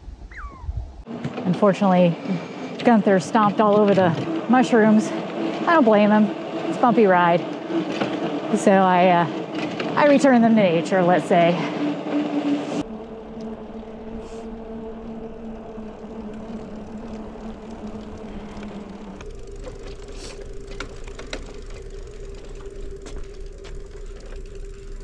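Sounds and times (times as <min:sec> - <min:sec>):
engine and road drone: 0:01.0 - 0:25.0.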